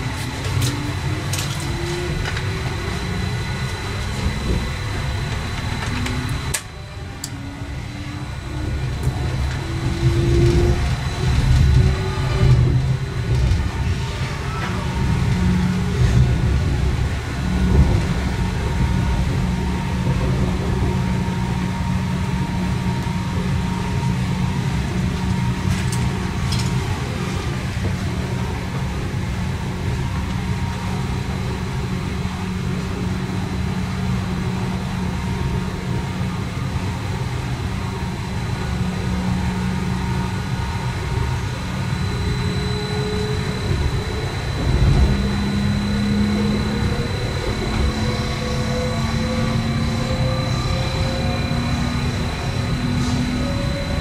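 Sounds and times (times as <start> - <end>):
constant whine: 0.0 - 54.0
high-pitched whine: 0.0 - 54.0
train wheels rumbling on rails: 0.0 - 54.0.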